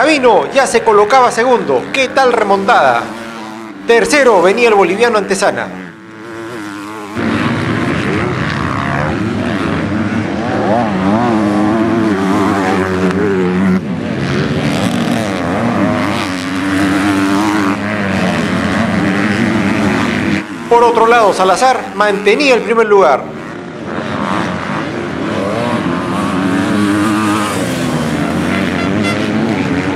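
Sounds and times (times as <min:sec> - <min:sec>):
motocross bike engines revving: 0:00.0 - 0:29.9.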